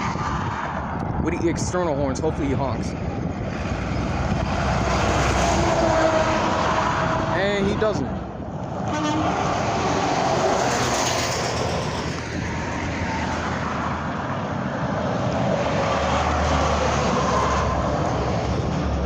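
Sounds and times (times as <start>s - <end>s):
highway traffic passing: 0.0s - 19.0s.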